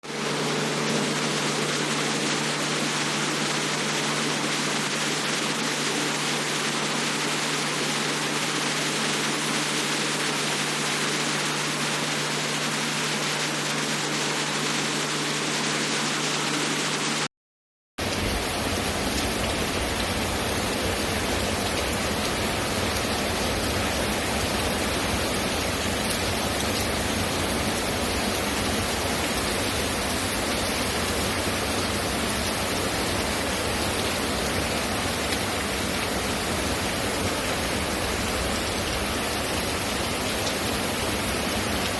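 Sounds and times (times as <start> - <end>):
heavy rain falling: 0.1 - 15.5, 18.0 - 41.9.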